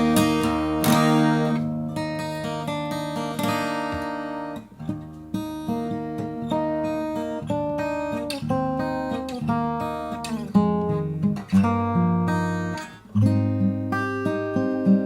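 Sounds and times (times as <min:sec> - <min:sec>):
acoustic guitar chords: 0:00.0 - 0:15.0
strummed guitar strokes: 0:00.0 - 0:15.0.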